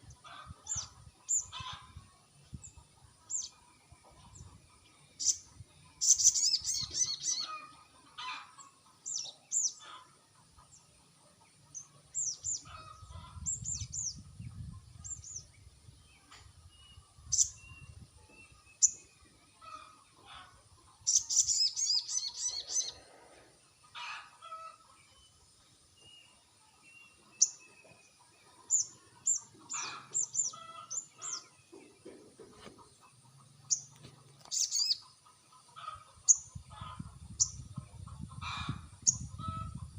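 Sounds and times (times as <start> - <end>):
bird chirps and trills: 0.0 - 10.9, 11.6 - 23.1, 26.7 - 32.0, 33.3 - 39.9.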